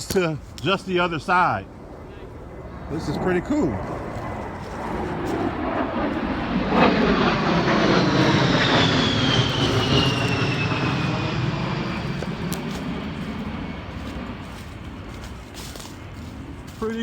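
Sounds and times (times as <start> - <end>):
airplane passing overhead: 0.0 - 17.0
high jet whine: 0.0 - 17.0.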